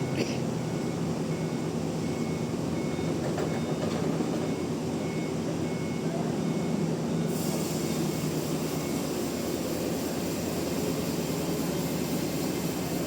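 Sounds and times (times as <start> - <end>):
sawmill machinery droning: 0.0 - 13.0.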